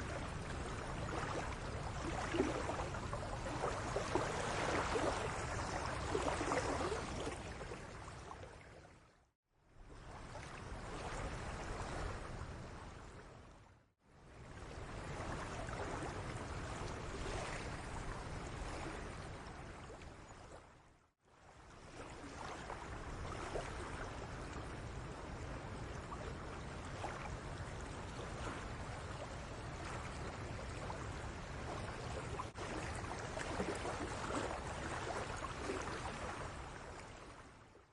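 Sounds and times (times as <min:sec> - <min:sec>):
seawater lapping and splashing: 0:00.0 - 0:37.9.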